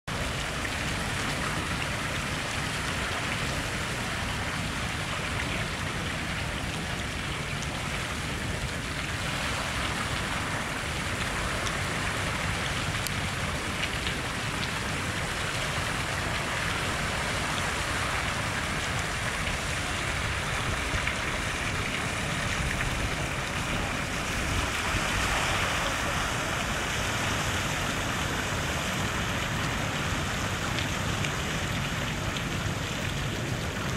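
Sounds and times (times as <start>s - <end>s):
rushing water: 0.0s - 33.9s
water spattering down dam face: 0.1s - 33.9s.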